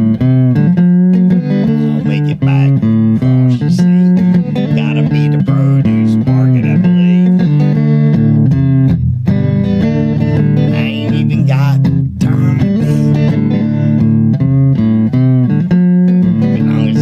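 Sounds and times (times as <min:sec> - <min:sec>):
bass guitar: 0:00.0 - 0:17.0
plucked guitar: 0:00.0 - 0:17.0.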